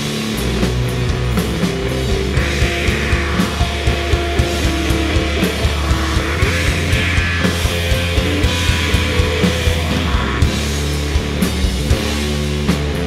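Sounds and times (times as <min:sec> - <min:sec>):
bass line: 0:00.0 - 0:13.0
electric guitars: 0:00.0 - 0:13.0
steady drum beat: 0:00.0 - 0:13.0.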